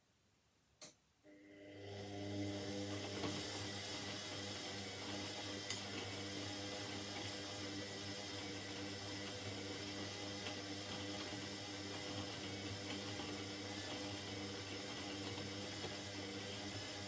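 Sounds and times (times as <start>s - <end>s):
washing machine humming: 1.5s - 17.0s.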